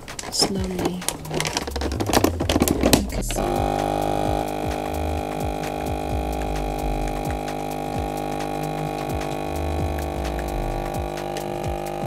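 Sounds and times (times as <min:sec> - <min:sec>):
vacuum sealer pump humming: 0:00.0 - 0:12.0.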